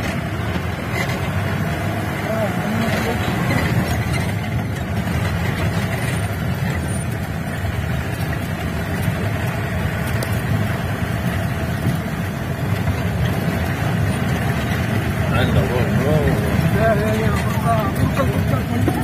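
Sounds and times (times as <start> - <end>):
jeep engine running: 0.0 - 19.0.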